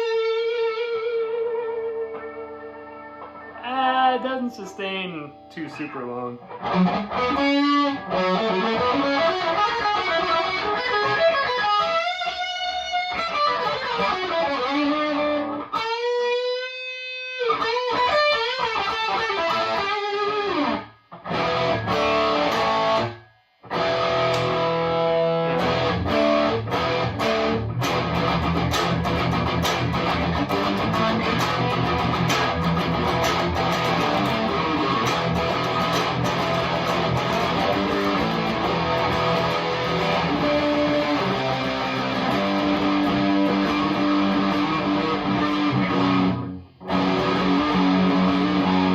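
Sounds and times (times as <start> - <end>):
overdriven electric guitar: 0.0 - 48.9.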